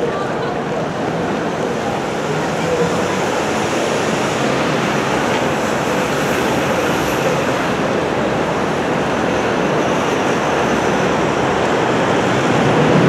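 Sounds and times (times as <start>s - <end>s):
electric train approaching: 0.0s - 13.0s
rushing rumble of rail and city: 0.0s - 13.0s.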